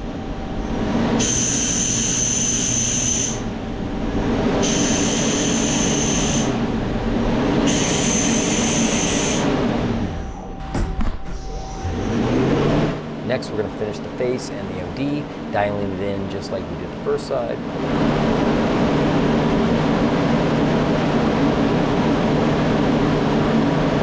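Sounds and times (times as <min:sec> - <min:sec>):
lathe machine hum: 0:00.0 - 0:10.6, 0:11.4 - 0:24.0
high-pitched cutting whine: 0:00.0 - 0:23.5.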